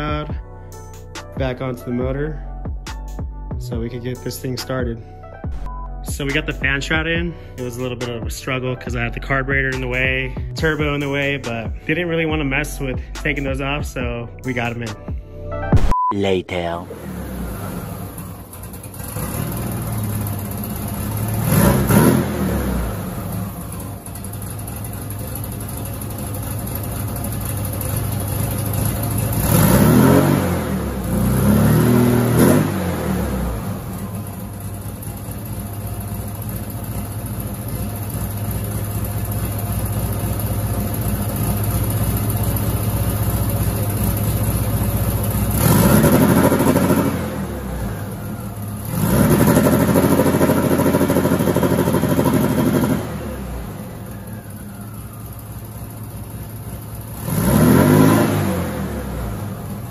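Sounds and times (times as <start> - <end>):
car engine idling and revving: 0.0 - 15.9, 16.8 - 59.9.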